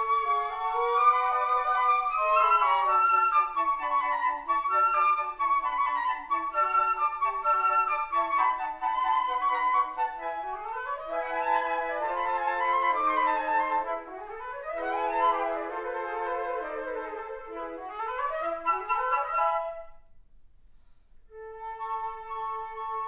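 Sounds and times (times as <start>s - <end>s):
flutes playing chamber music: 0.0s - 20.3s, 21.2s - 23.0s.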